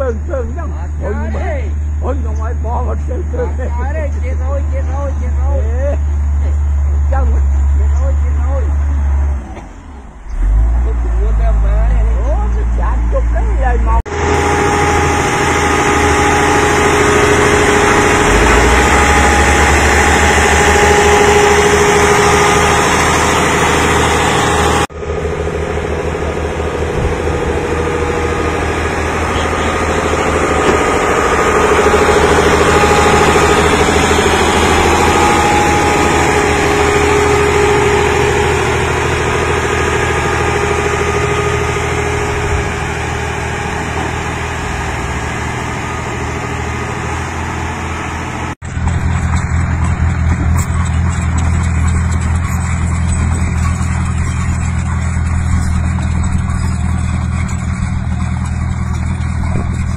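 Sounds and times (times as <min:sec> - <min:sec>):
road roller diesel engine: 0:00.0 - 0:59.9.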